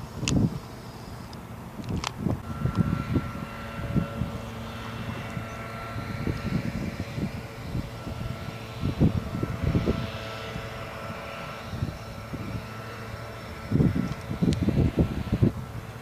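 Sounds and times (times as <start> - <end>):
distant engine drone: 0.0 - 16.0
wind buffeting microphone: 0.0 - 16.0.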